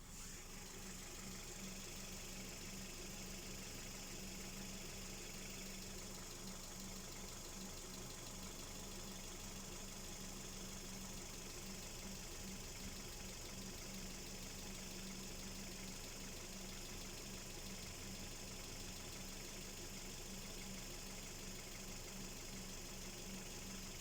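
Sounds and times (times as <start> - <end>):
car engine idling: 0.0 - 24.0
engine ticking clatter: 0.3 - 24.0.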